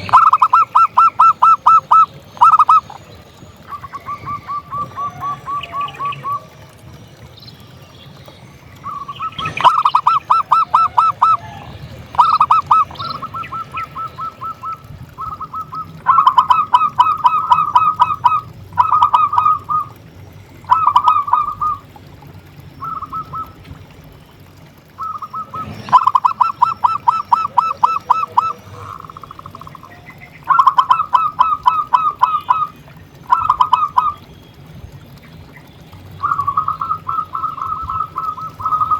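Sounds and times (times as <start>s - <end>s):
dove staccato cooing: 0.0s - 3.0s, 3.6s - 6.7s, 8.8s - 24.1s, 24.8s - 34.3s, 35.0s - 38.9s
low steady hum: 0.0s - 38.9s.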